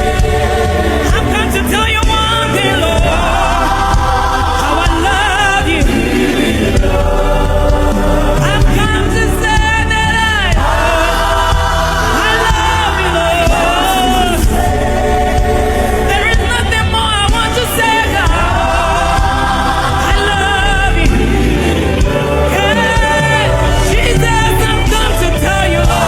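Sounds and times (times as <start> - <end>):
gospel choir singing: 0.0 - 26.0
low instrumental backing: 0.0 - 26.0.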